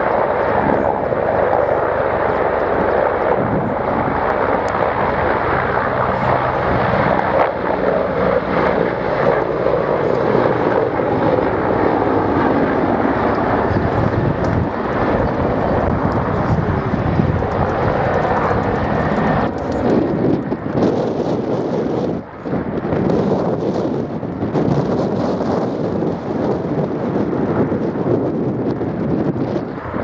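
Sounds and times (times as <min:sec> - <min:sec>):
helicopters flying: 0:00.0 - 0:30.0.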